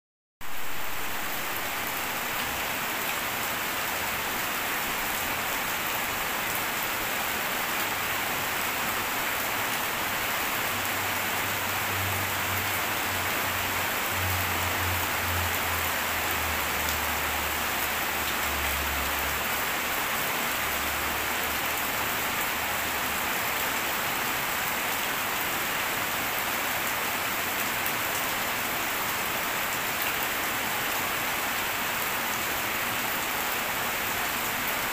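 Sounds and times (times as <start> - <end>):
heavy rain pattering: 0.4 - 34.9.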